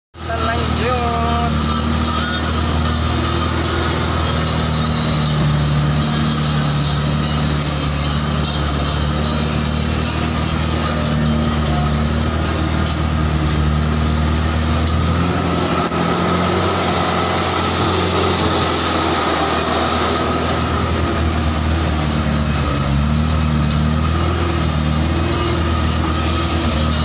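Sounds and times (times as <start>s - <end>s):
off-road vehicle engine: 0.1s - 27.0s
rushing noise of driving: 0.1s - 27.0s.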